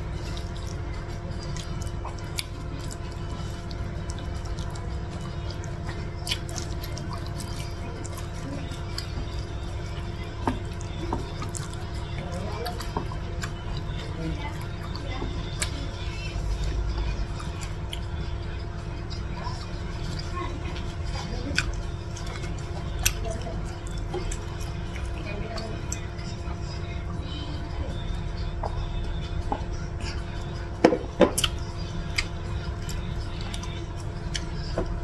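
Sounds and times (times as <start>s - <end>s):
wet chewing and smacking: 0.0s - 27.4s, 28.0s - 35.0s
background music: 0.0s - 35.0s.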